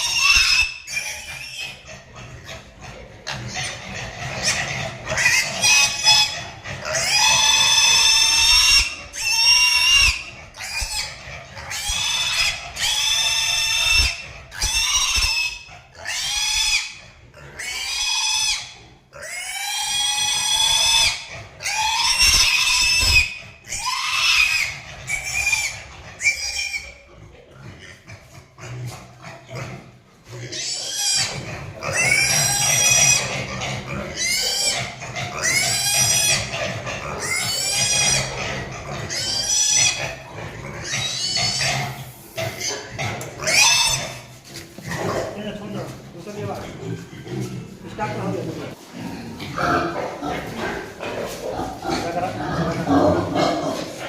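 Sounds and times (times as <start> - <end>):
pig squealing: 0.0 - 54.0.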